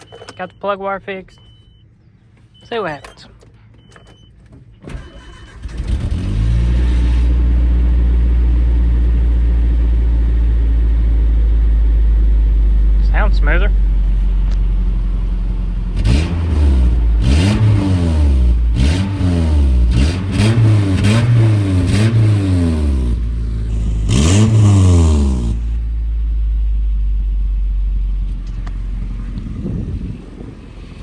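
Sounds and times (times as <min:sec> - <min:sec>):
truck engine idling and revving: 0:00.0 - 0:31.0.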